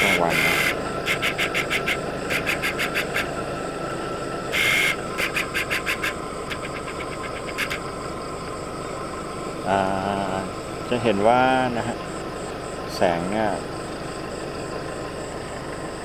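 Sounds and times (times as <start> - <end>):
background insect tones: 0.0 - 16.0
insects calling in pulses: 0.0 - 16.0.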